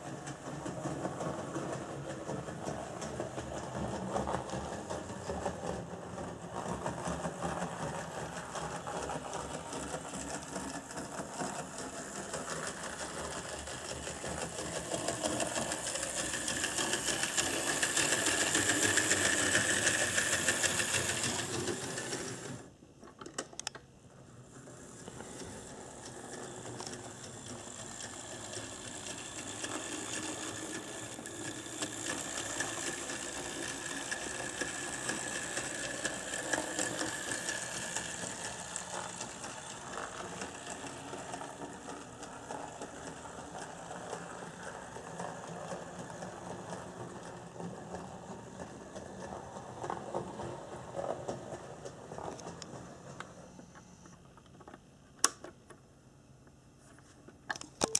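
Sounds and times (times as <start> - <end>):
model train motor whirring: 0.0 - 22.7, 24.4 - 53.7.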